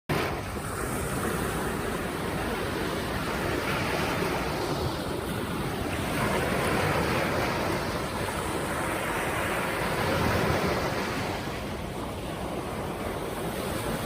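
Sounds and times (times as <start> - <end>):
ocean surf washing onto beach: 0.1 - 14.0.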